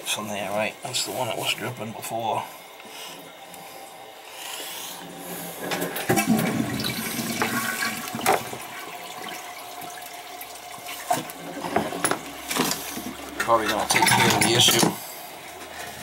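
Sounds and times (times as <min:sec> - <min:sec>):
toilet tank refilling hiss: 0:00.0 - 0:13.7
toilet flushing: 0:00.0 - 0:16.0.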